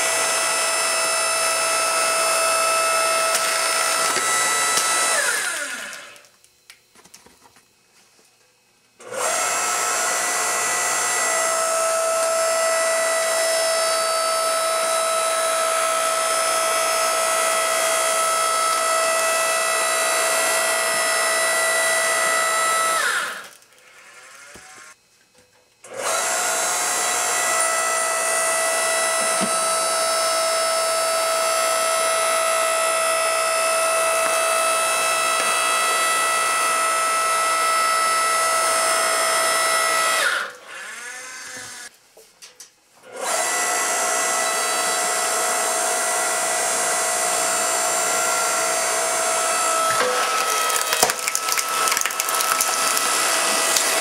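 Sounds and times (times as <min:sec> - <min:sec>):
power tool motor whining: 0:00.0 - 0:06.3, 0:09.0 - 0:25.0, 0:25.8 - 0:41.9, 0:43.0 - 0:54.0.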